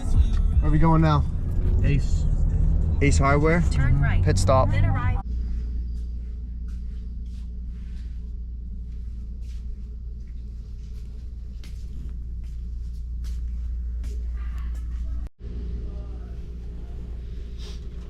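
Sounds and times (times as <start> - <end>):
vehicle rumble inside cab: 0.0 - 18.0.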